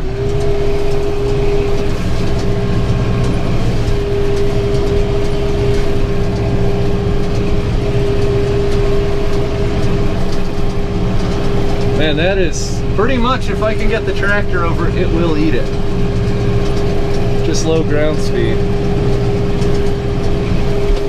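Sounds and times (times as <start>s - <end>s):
steady high whine: 0.0s - 21.0s
tractor engine under load: 0.0s - 21.0s.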